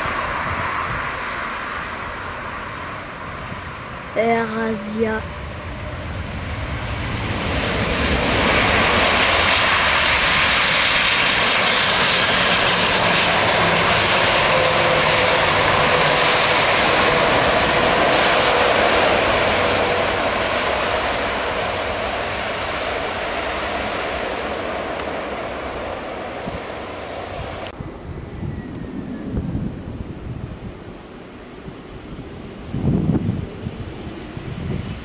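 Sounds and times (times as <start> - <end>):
jet airliner passing low: 0.0 - 35.0.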